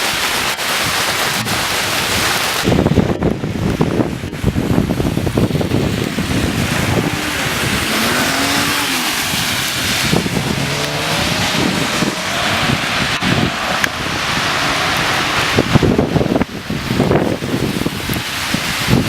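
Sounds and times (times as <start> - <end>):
rain hiss: 0.0 - 19.0
wind gusting on microphone: 0.0 - 19.0.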